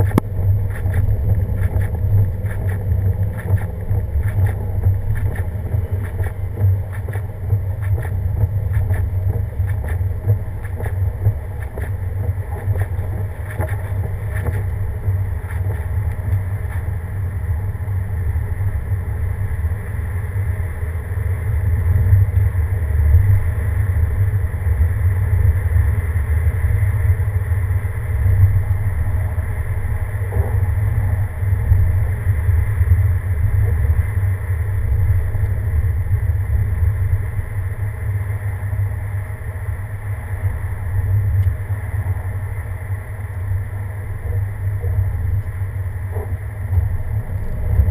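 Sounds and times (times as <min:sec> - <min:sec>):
vehicle engine and road rumble: 0:00.0 - 0:47.9.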